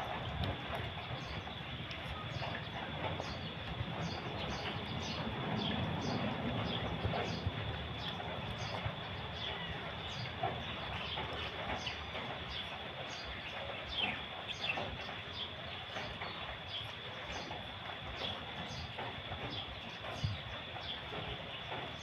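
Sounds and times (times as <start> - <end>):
small birds chirping: 1.0 - 22.0.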